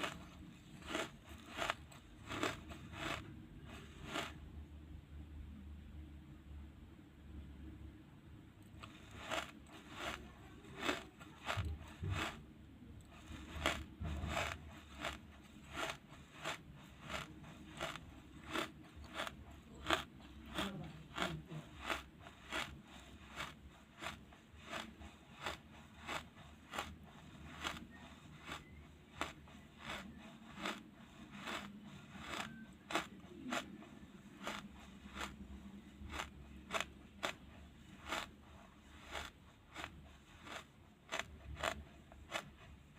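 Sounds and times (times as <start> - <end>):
charcoal being chewed: 0.0 - 4.6, 8.6 - 42.9.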